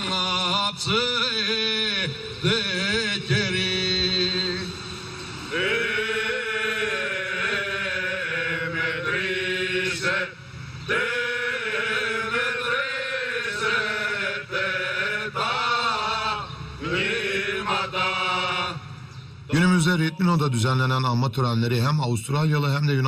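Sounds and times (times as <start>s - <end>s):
men singing in unison: 0.0s - 4.9s, 5.5s - 19.2s.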